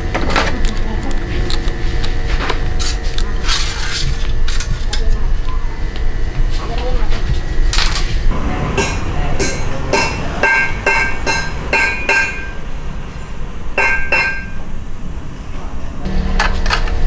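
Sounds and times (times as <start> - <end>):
steady low noise: 0.0 - 17.0.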